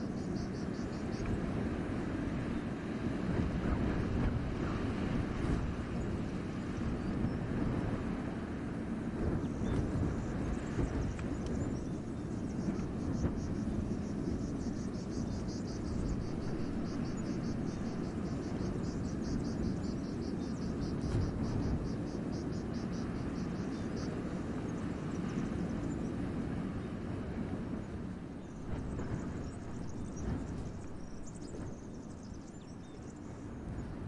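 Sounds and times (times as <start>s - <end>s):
wind rushing through forest: 0.0s - 34.0s.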